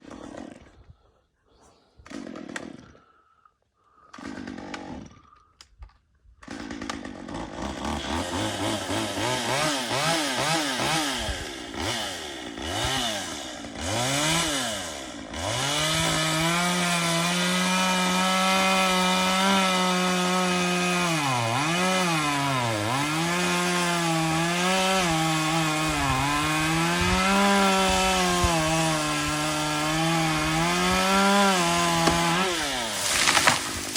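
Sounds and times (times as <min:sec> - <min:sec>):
chainsaw revving and cutting wood: 0:00.0 - 0:01.0, 0:02.0 - 0:03.2, 0:04.0 - 0:05.5, 0:06.4 - 0:33.9.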